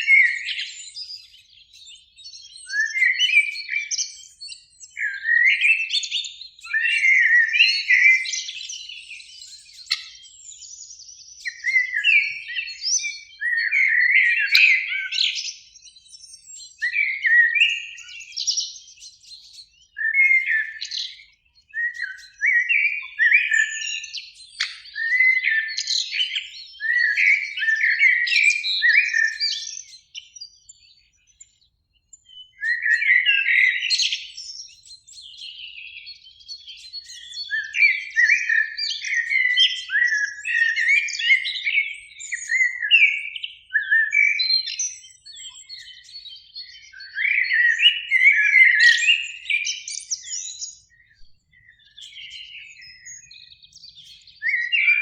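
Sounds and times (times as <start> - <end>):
blackbirds singing: 0.0 - 55.0.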